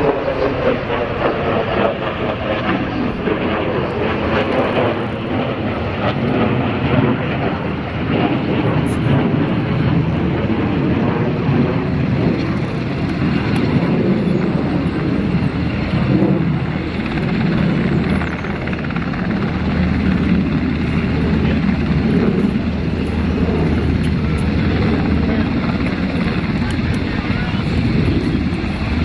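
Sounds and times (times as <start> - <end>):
helicopter running: 0.0 - 29.0.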